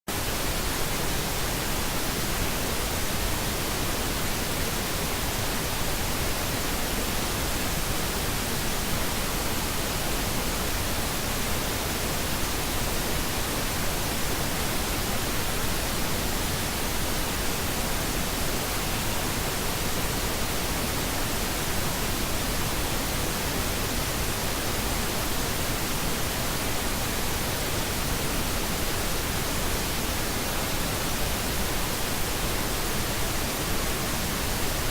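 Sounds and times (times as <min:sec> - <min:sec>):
pink noise hiss: 0:00.1 - 0:34.9.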